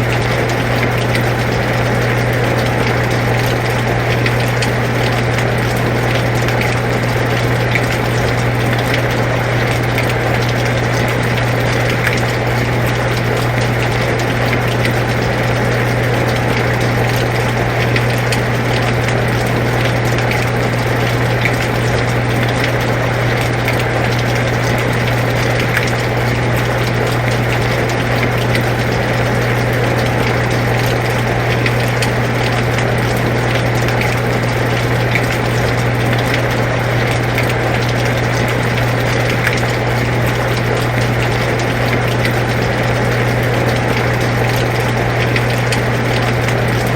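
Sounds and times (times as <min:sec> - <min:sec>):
air conditioner humming: 0:00.0 - 0:46.9
raindrops ticking: 0:00.0 - 0:46.9.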